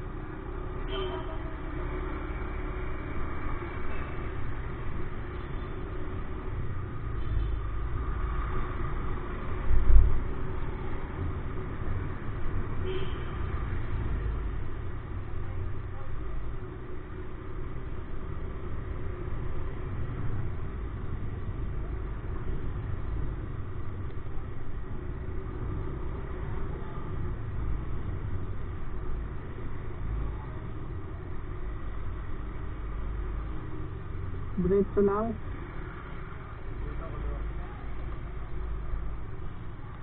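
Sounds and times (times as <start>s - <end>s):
road and traffic rumble: 0.0s - 40.0s.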